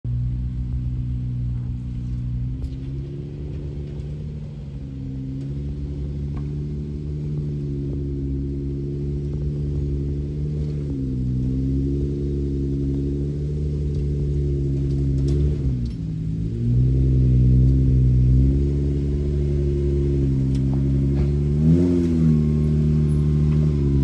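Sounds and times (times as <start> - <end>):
engine droning hum: 0.0 - 24.0.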